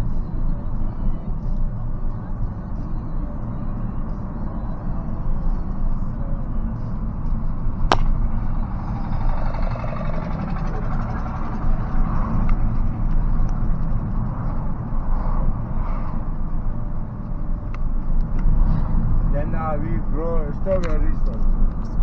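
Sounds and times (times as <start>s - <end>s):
car road and engine rumble: 0.0s - 22.0s.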